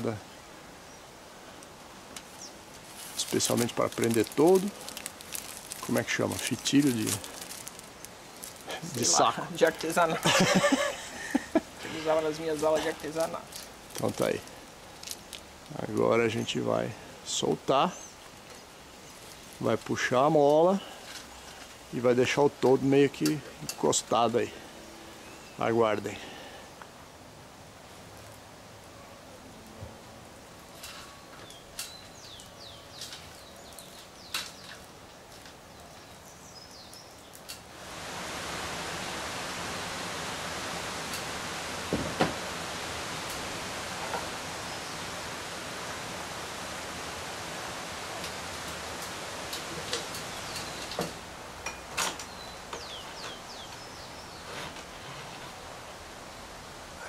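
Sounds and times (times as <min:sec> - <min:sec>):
birds chirping: 0:00.0 - 0:26.9, 0:30.6 - 0:37.6, 0:40.0 - 0:55.1
steady hiss: 0:00.0 - 0:57.0.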